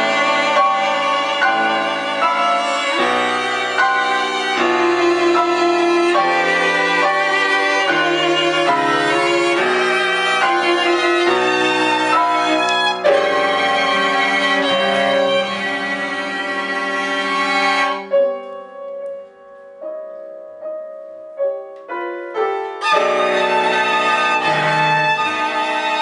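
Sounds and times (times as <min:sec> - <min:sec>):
violin: 0:00.0 - 0:19.7, 0:21.8 - 0:26.0
cello: 0:00.0 - 0:20.1, 0:21.4 - 0:26.0
piano notes: 0:00.0 - 0:26.0.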